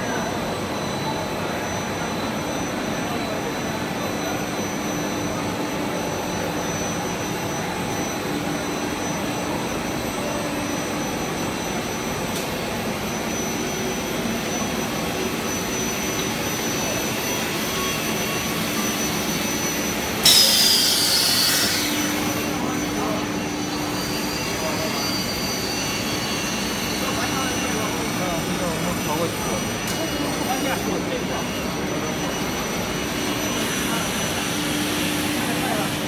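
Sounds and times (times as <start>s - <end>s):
machine whirring: 0.0s - 36.0s.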